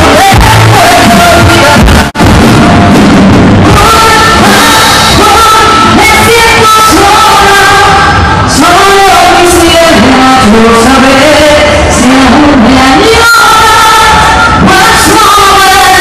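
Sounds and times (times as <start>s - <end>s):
woman singing into microphone: 0.0s - 2.0s, 3.7s - 16.0s
live band music over loudspeakers: 0.0s - 16.0s.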